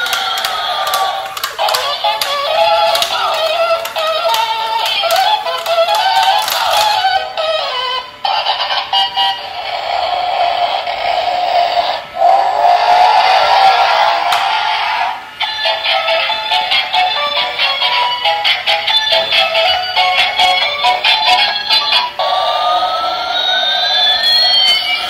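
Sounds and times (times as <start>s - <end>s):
toy car electronic tune: 0.0s - 12.7s, 15.4s - 25.0s.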